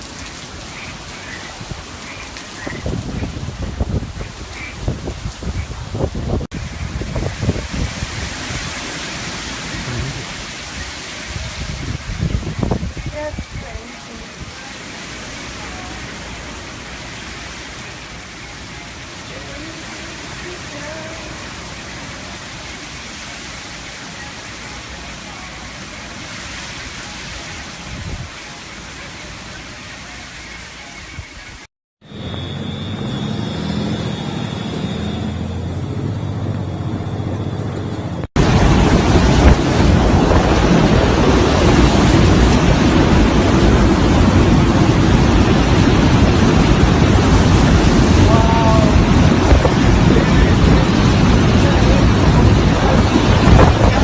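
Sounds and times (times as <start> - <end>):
gusty wind: 0.0 - 29.8, 30.4 - 54.0
heavy rain: 0.0 - 31.7, 38.0 - 54.0.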